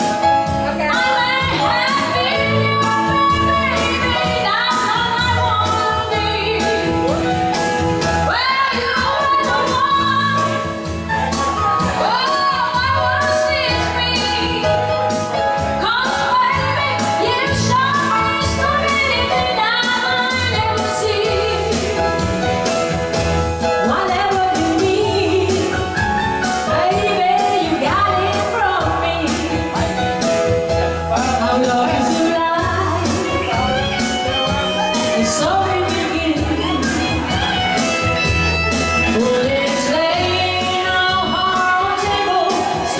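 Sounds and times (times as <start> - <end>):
instrumental accompaniment with beat: 0.0 - 42.9
woman singing pop song: 0.0 - 42.9.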